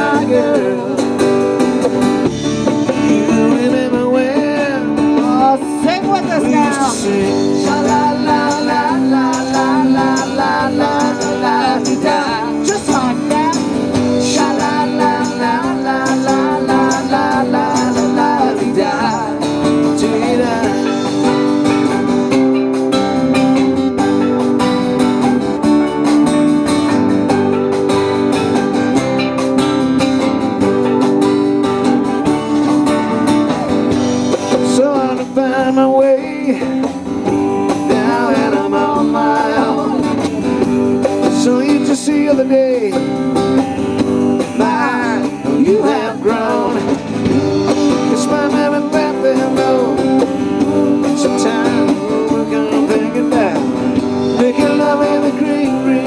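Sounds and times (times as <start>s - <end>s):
acoustic guitar: 0.0s - 56.0s
congas: 0.0s - 56.0s
drums: 0.0s - 56.0s
electric guitar: 0.0s - 56.0s.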